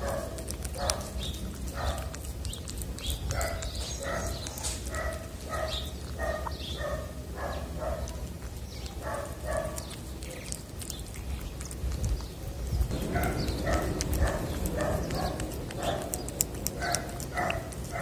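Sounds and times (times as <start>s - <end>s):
cat chewing wet food: 0.0s - 18.0s
steady low rumble: 0.0s - 18.0s.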